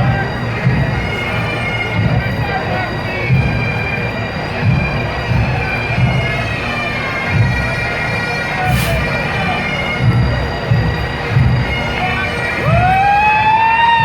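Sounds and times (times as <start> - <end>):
bagpipes playing over drones: 0.0 - 14.0
drums beating low thuds: 0.0 - 14.0.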